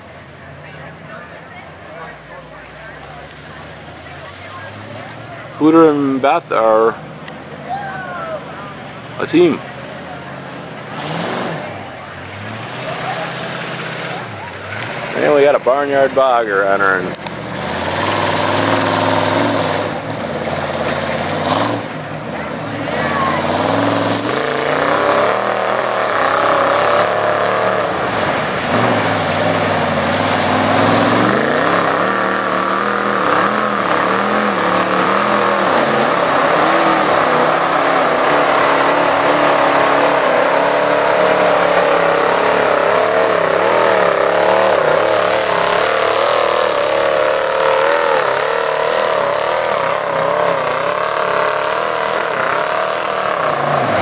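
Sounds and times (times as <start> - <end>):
truck engine revving loud: 8.4 - 54.0.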